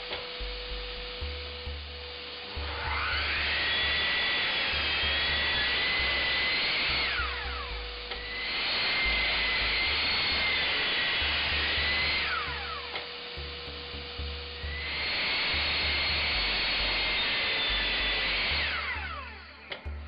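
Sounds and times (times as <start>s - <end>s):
mitre saw cutting wood: 0.0s - 20.0s.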